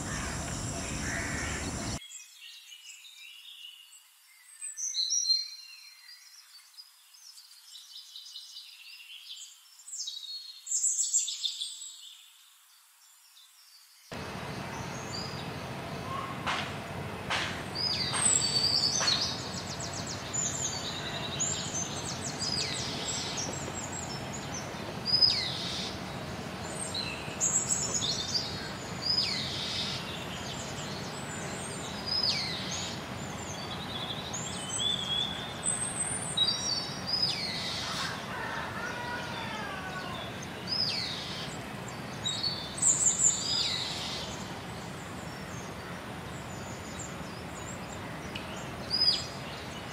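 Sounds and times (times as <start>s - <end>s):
small birds chirping: 0.0s - 5.3s, 13.4s - 49.9s
outdoor background hiss: 0.0s - 49.9s.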